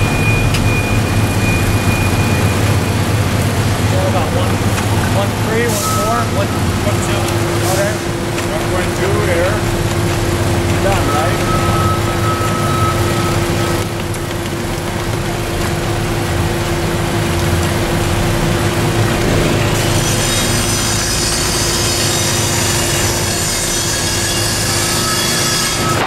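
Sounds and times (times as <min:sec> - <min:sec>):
machinery engines droning: 0:00.0 - 0:26.0.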